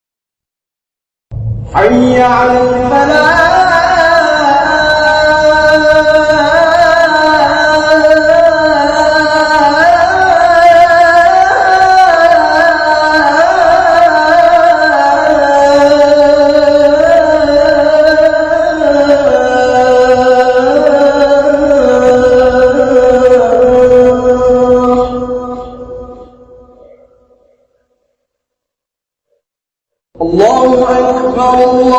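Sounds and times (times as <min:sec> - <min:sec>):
man singing call to prayer: 0:01.7 - 0:27.7, 0:30.2 - 0:31.9.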